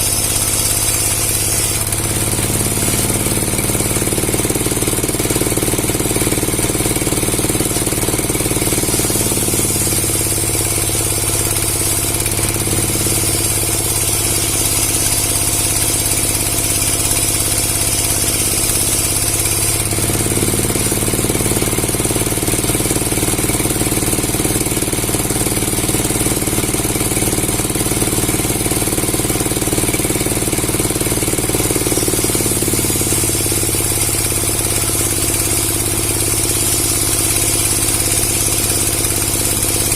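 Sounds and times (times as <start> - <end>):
motor-driven wood saw running: 0.0 - 39.9.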